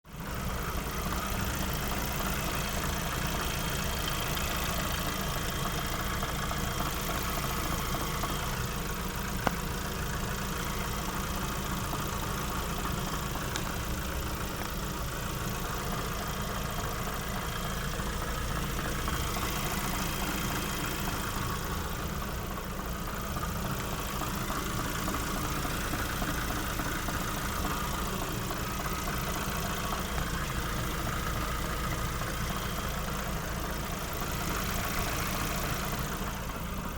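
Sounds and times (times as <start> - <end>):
car engine idling: 0.0 - 36.9
engine knock: 0.1 - 36.9.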